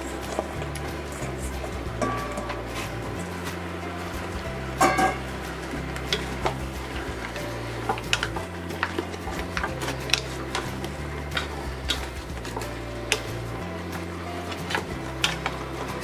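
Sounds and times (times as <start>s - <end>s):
wooden spoon knocking metal pot: 0.0s - 13.5s.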